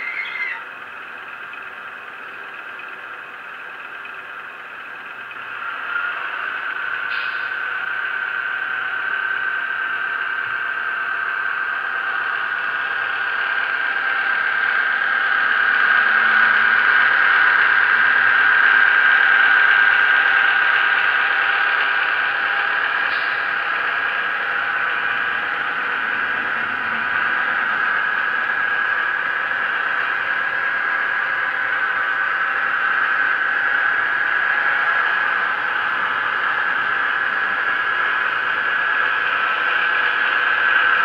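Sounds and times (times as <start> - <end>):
diesel engine drone from loudspeaker: 0.0 - 41.0
model train running on track: 0.0 - 41.0.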